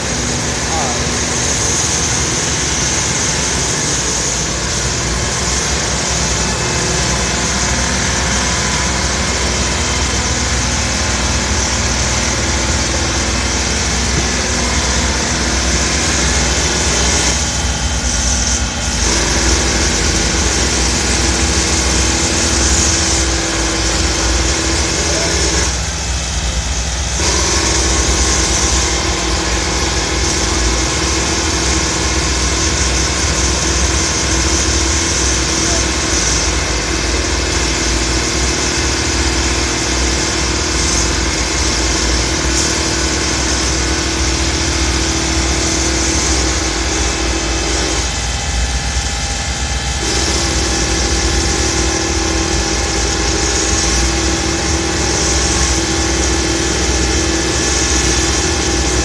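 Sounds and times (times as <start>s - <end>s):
street noise: 0.0s - 59.0s
truck engines idling: 0.0s - 59.0s.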